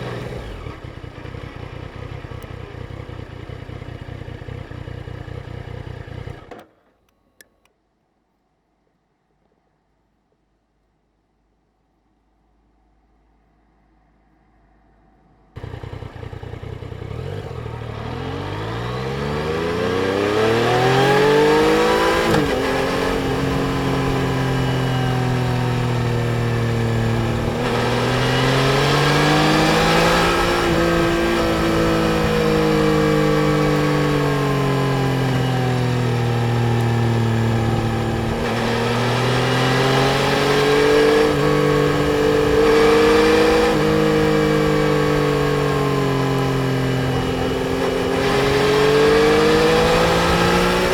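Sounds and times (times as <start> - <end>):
motorcycle engine accelerating: 0.0 - 6.7, 15.6 - 50.9.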